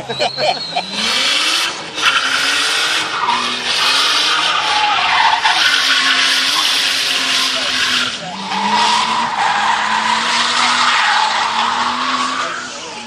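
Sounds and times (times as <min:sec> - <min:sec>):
car engine revving: 0:00.0 - 0:13.0
tyres screeching: 0:00.0 - 0:13.0.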